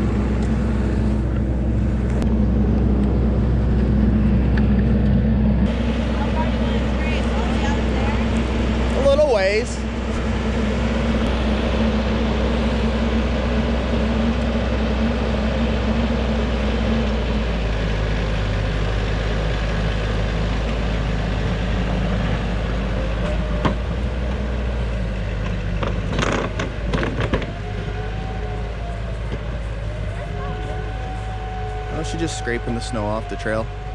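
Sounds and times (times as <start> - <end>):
heavy vehicle engine under load: 0.0 - 33.9.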